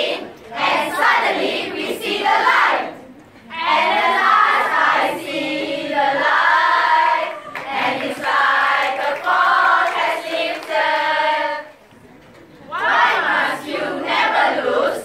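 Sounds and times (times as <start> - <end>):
women chanting in unison: 0.0 - 11.7, 12.7 - 15.0.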